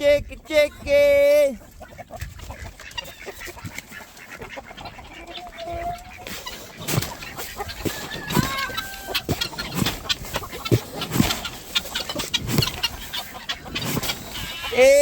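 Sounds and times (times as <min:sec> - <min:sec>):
poultry calling and clucking: 0:00.0 - 0:15.0.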